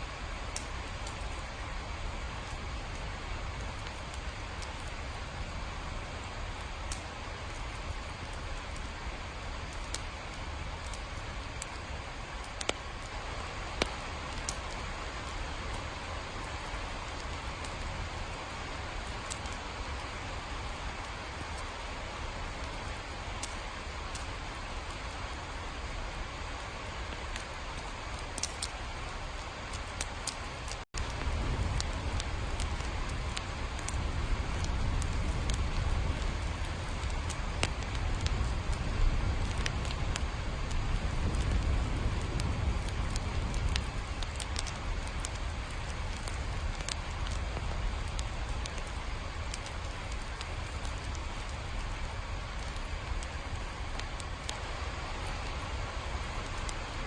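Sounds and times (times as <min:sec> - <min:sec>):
steady rain: 0:00.0 - 0:57.0
raindrops ticking: 0:06.2 - 0:57.0.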